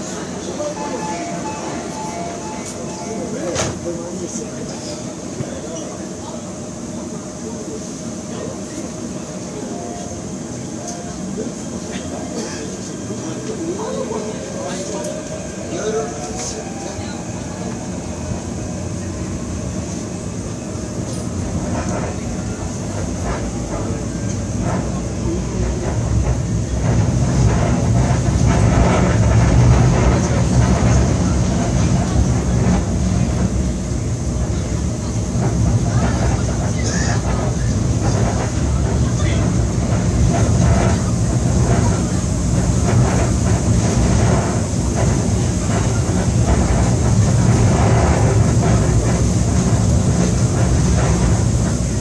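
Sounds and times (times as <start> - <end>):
faint passenger conversation: 0.0 - 52.0
wheels rumbling on track: 0.0 - 52.0.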